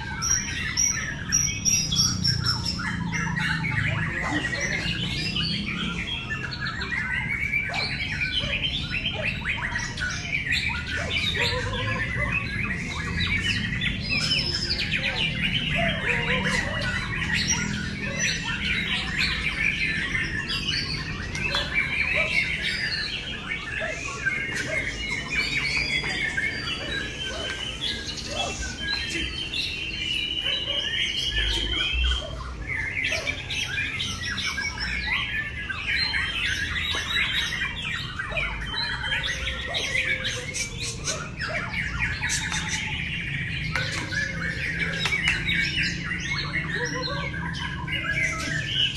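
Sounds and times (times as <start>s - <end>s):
bird trill: 0.0s - 48.9s
songbirds singing: 0.0s - 48.9s.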